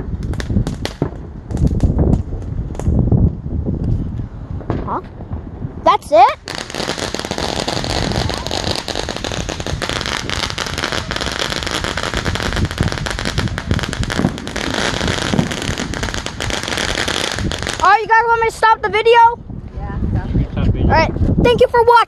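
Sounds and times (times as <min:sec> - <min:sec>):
fireworks crackling: 0:00.0 - 0:19.4.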